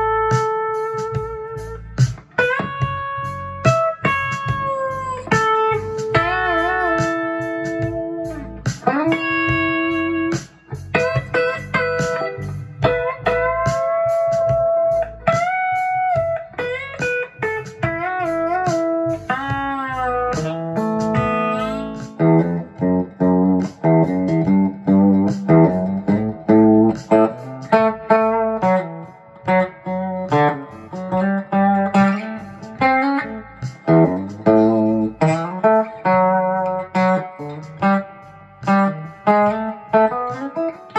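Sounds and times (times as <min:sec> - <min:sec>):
guitar short picked notes: 0:00.0 - 0:40.9
electric guitar sustained notes: 0:02.4 - 0:40.9.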